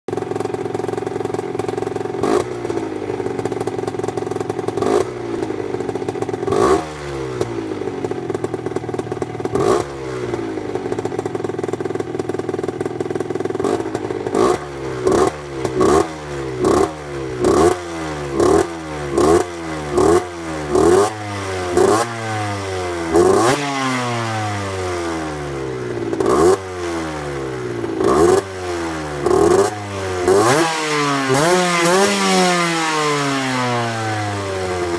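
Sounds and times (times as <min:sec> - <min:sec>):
two-stroke engine revving: 0:00.1 - 0:34.9.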